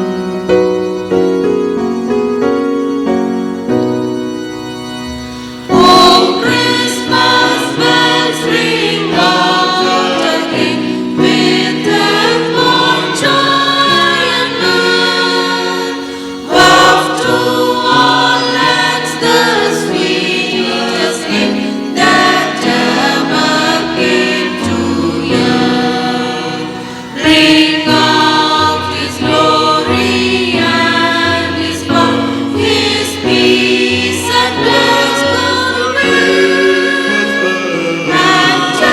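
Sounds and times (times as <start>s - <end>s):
church choir singing: 0.0s - 38.9s
electronic keyboard accompaniment: 0.0s - 38.9s.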